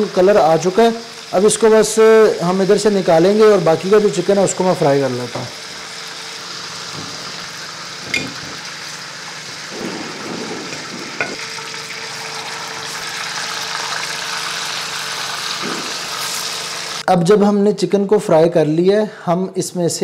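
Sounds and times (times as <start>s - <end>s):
chicken frying in fat: 0.0s - 17.1s.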